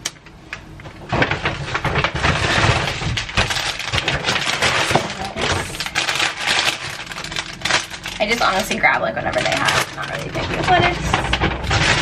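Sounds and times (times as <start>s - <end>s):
plastic bag crinkling: 0.1s - 12.0s
paper bag rustling: 0.8s - 12.0s.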